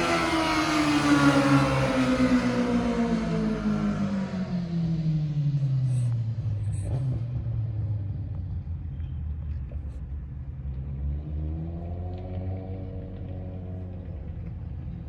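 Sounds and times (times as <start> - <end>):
motorcycle engines: 0.0 - 15.0.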